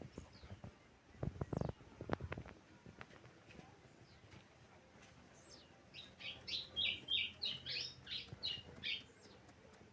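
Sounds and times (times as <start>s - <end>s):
songbird chirping: 0.0s - 9.9s.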